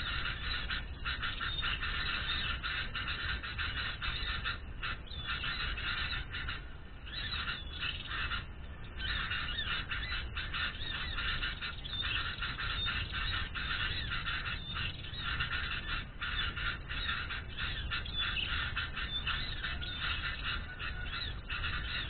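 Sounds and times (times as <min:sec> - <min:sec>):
birds chirping and chattering: 0:00.0 - 0:22.0.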